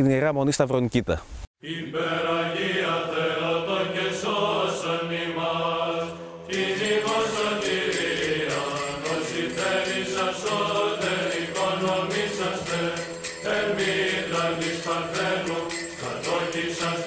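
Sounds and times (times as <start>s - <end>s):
chant melody: 1.6s - 17.0s.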